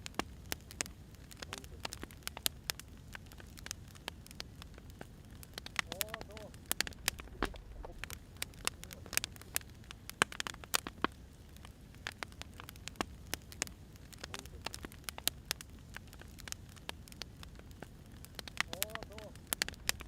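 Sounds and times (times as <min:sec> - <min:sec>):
firewood crackling and popping: 0:00.0 - 0:20.0
low fire rumble: 0:00.0 - 0:20.0.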